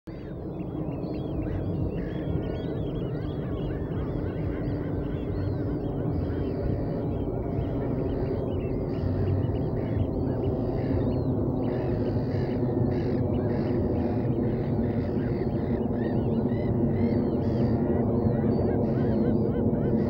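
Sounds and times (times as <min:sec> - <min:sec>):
gulls calling: 0:00.1 - 0:20.0.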